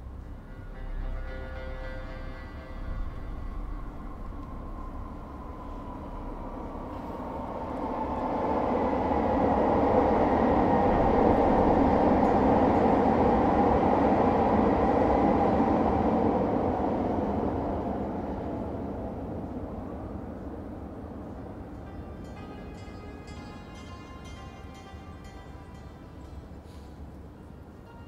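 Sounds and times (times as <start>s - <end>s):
train rumbling past: 0.0s - 28.0s.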